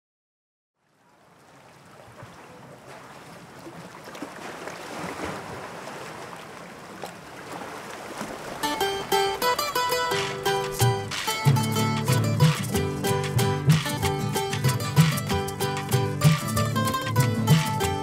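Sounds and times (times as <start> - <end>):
sea water rushing: 1.0 - 18.0.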